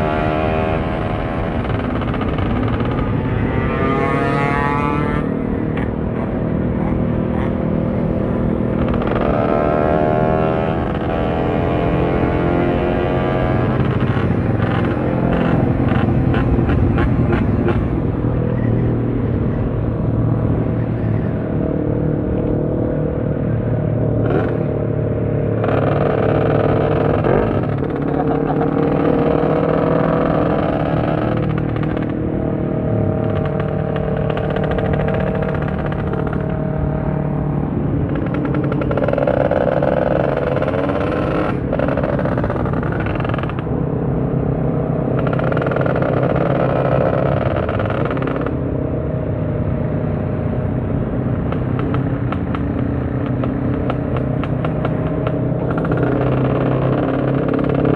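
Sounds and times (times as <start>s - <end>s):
motorcycle engine running: 0.0s - 48.8s, 49.4s - 57.9s.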